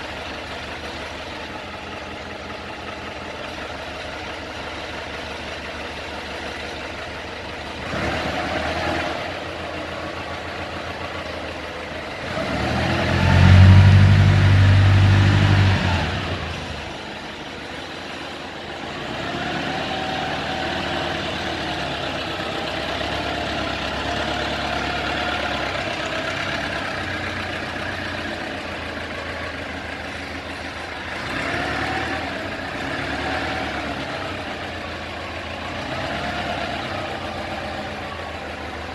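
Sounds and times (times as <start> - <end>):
forklift engine revving: 7.6 - 38.9.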